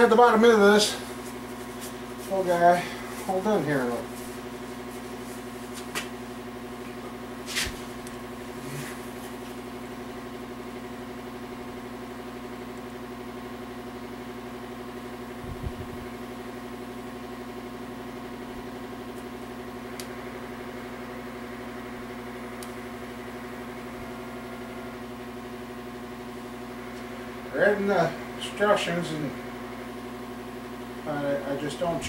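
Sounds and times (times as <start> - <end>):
machine humming: 0.0 - 32.0.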